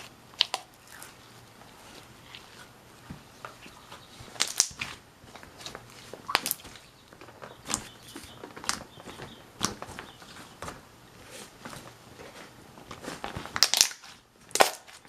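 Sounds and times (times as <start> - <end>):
slime squishing with wet pops: 0.0 - 10.9, 12.9 - 15.0.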